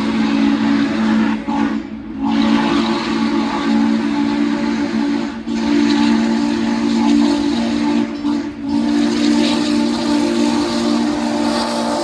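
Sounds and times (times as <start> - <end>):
hiss of steam: 0.0 - 12.0
steam locomotive chime whistle: 0.0 - 12.0.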